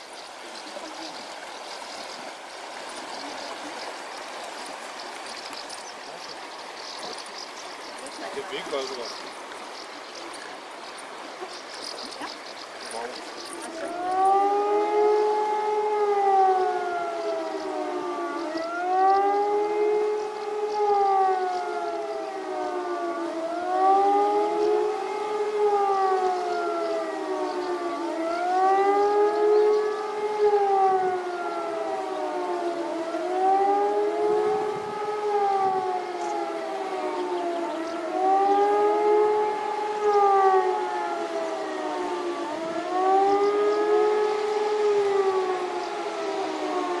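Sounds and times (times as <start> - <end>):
warning siren wailing: 0.0 - 12.0, 12.8 - 47.0.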